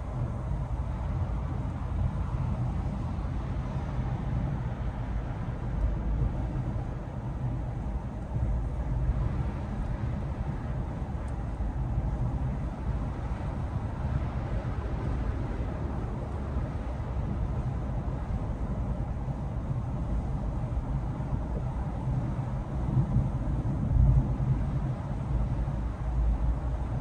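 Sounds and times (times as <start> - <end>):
car interior road rumble: 0.0 - 27.0.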